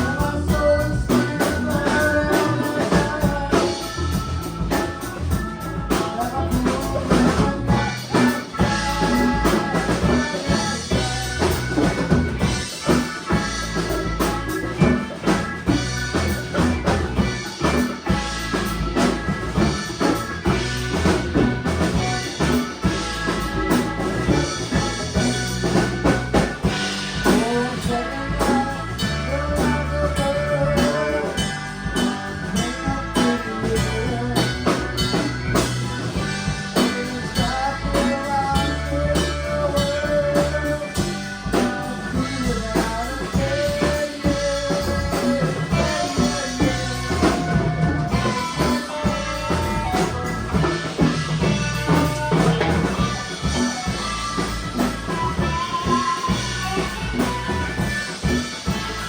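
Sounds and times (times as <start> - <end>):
band playing a song: 0.0 - 59.0
drum kit beat: 0.0 - 59.0.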